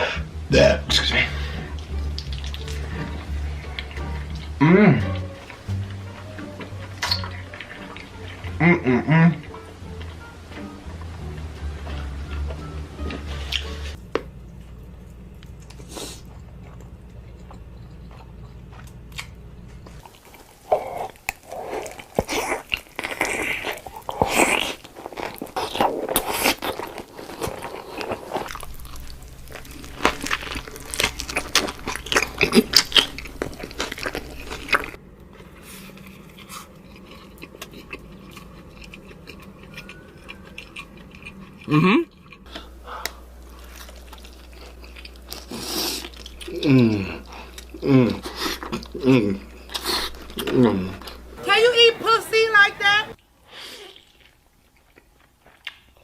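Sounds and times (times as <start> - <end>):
chewing and crunching food: 1.0 - 51.9, 53.5 - 56.0.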